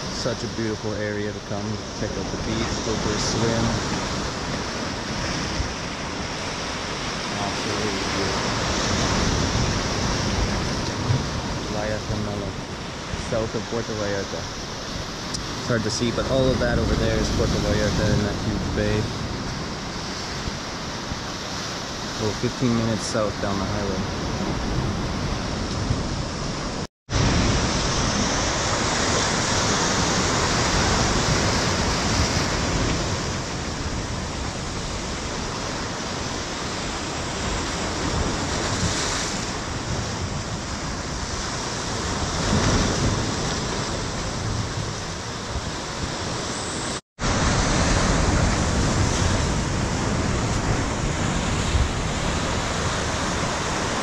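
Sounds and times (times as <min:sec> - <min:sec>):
ocean surf breaking over boulders: 0:00.0 - 0:54.0.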